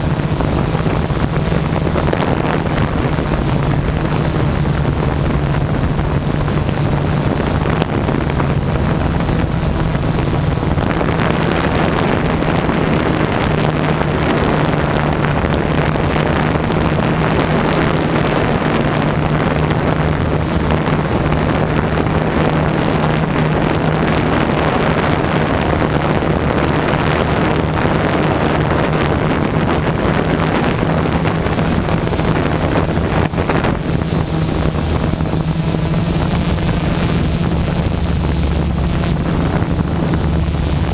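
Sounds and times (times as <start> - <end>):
drone propellers humming: 0.0 - 40.9
wind noise on microphone: 0.0 - 40.9.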